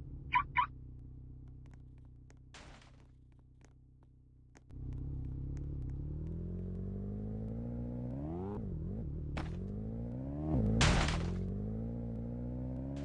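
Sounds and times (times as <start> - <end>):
engine idling and accelerating: 0.0 - 13.0.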